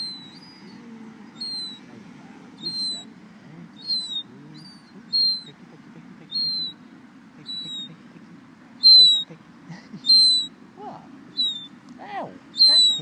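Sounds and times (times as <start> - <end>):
seagull calling: 0.0 - 13.0.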